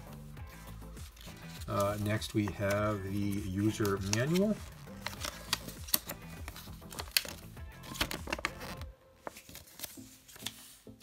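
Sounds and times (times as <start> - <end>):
background music: 0.0 - 11.0
paper crinkling and rustling: 0.5 - 11.0.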